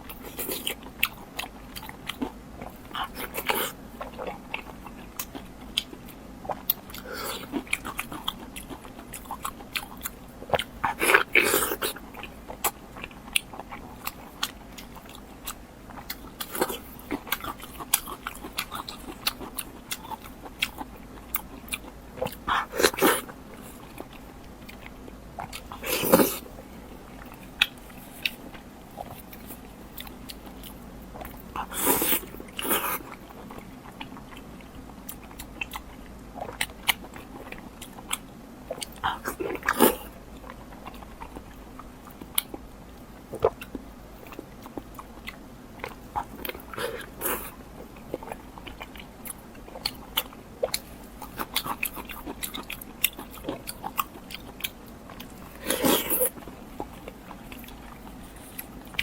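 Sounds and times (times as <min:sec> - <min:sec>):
biting and chewing: 0:00.0 - 0:59.0.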